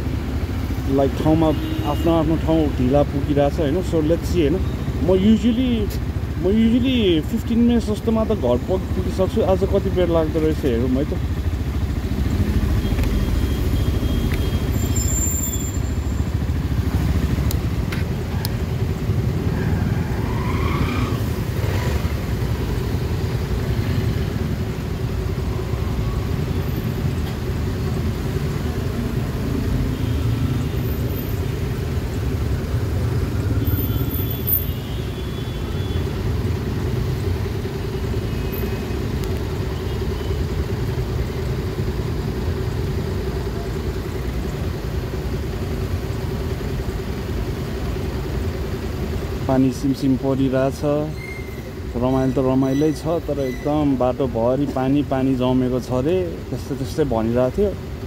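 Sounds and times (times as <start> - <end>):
traffic engines rumbling: 0.0 - 58.0.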